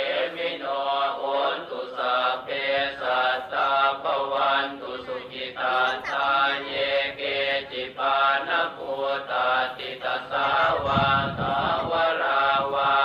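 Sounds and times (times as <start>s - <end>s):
rhythmic chanting: 0.0s - 13.0s.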